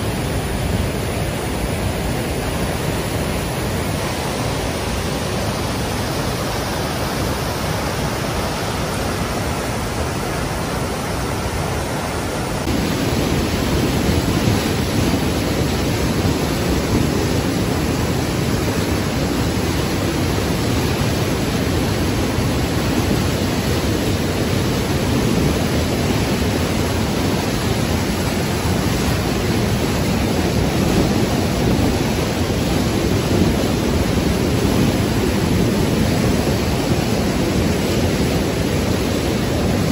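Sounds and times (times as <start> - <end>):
river rushing down a cascade: 0.0 - 39.9.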